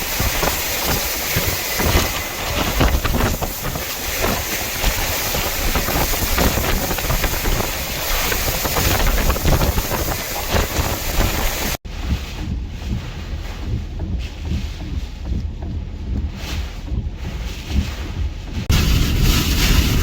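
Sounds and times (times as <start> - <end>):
strong gusting wind: 0.0 - 14.6, 16.8 - 20.0
wind buffeting microphone: 0.0 - 20.0.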